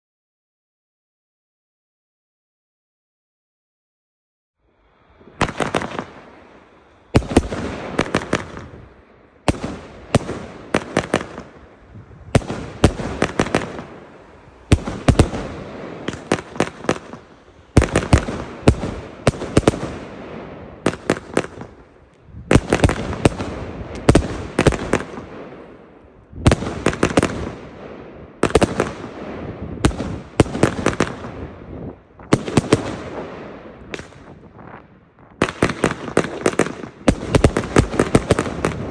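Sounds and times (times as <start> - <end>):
firework crackle: 4.7 - 38.9
firework bangs: 5.2 - 38.9.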